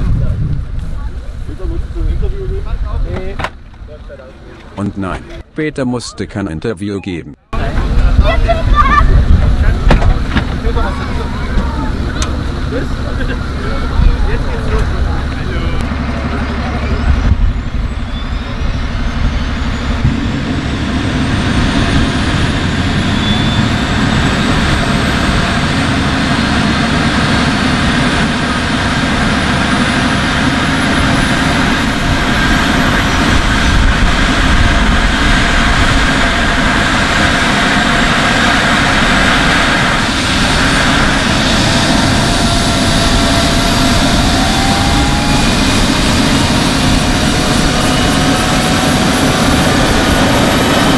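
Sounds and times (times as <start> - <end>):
helicopter low rumble: 0.0 - 5.6, 7.5 - 50.9
helicopter turbine whine: 7.5 - 50.9.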